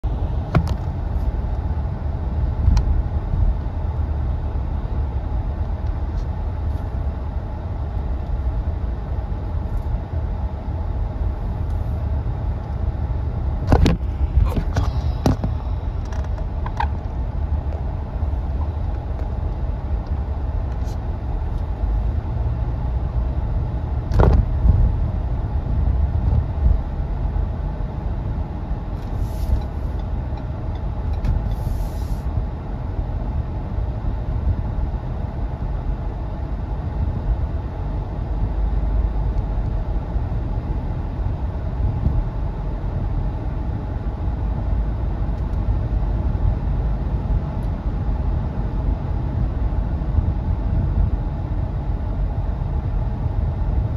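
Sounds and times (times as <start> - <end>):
car driving rumble: 0.0 - 53.9.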